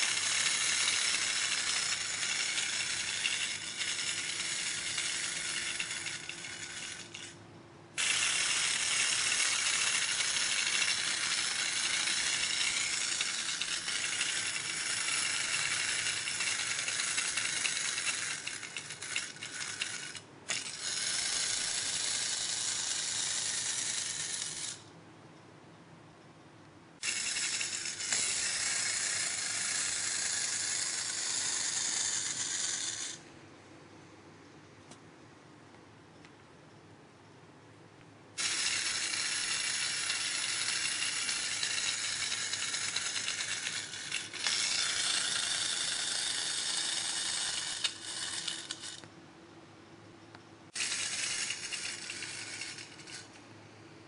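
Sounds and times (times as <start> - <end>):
wind-up toy whirring and rattling: 0.0 - 24.9, 27.0 - 33.3, 38.4 - 49.1, 50.7 - 53.4.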